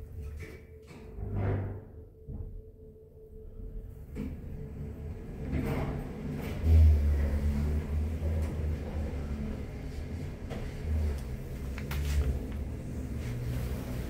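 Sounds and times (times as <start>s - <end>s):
lift low rumble: 0.0s - 14.0s.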